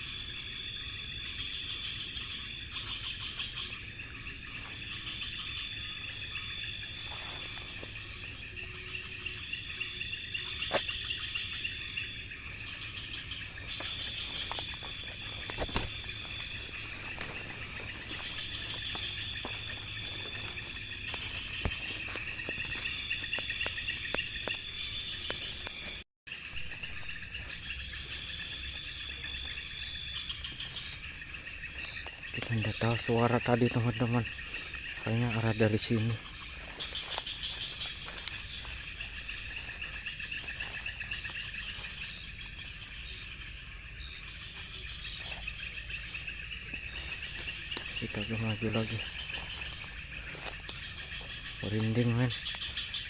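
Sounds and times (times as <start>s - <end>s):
crickets trilling chorus: 0.0s - 53.0s
high insect buzz: 0.0s - 53.0s.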